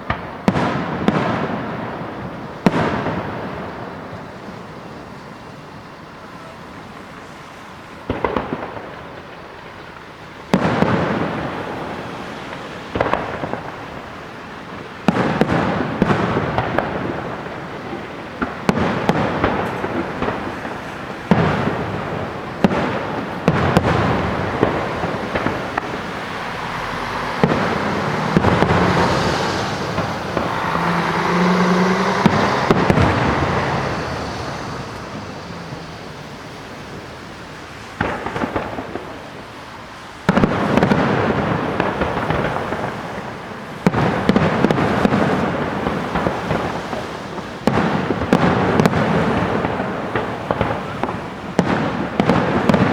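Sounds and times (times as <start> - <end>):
firework crackle: 0.0 - 52.9
firework shells booming: 0.0 - 52.9.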